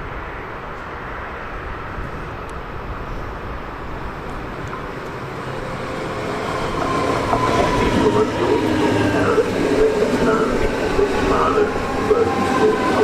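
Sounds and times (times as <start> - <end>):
train approaching: 0.0 - 13.0.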